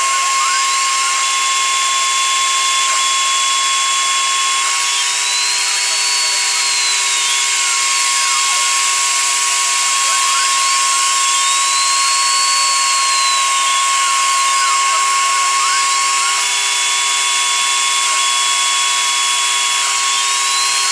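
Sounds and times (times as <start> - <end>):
motor tones rising and falling: 0.0 - 20.9
router spindle whine: 0.0 - 20.9.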